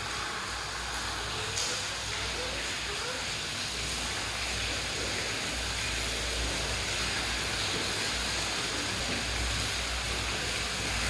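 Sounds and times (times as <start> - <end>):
water splashing into a tank: 0.0 - 11.0.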